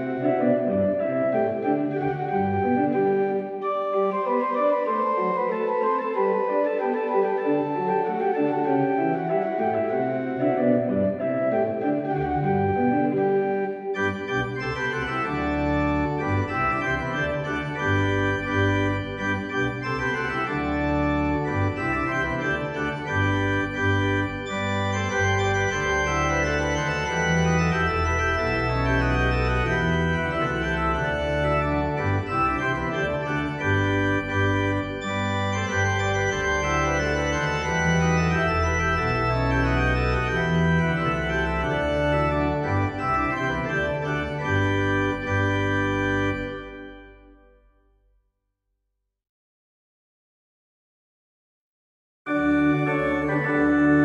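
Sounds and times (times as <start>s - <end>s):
instrumental background music: 0.0s - 47.7s.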